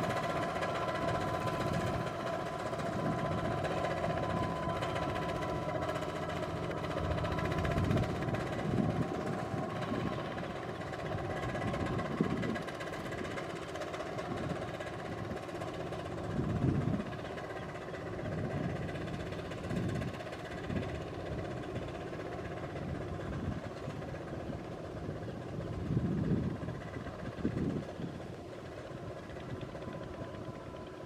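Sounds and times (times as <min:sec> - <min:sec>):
power tiller engine running: 0:00.0 - 0:31.0.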